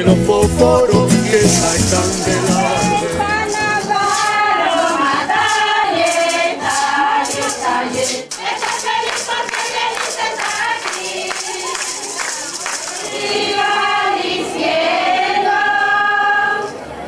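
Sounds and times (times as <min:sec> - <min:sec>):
group singing a chant: 0:00.0 - 0:12.0, 0:13.0 - 0:16.8
rhythmic hand clapping: 0:00.0 - 0:14.0.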